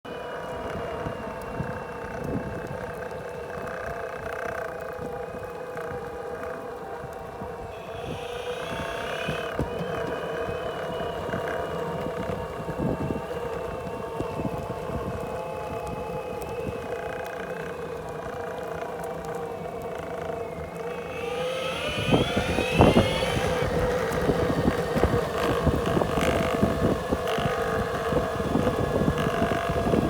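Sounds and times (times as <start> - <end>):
electric skateboard motors whining: 0.1 - 30.0
skateboard clicking: 0.4 - 30.0.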